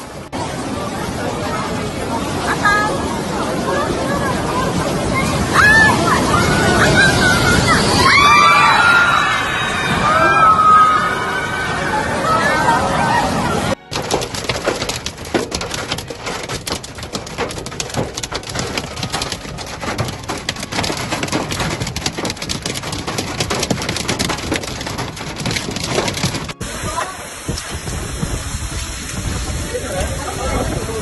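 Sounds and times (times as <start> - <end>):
heavy rain on hard surface: 0.0 - 31.0.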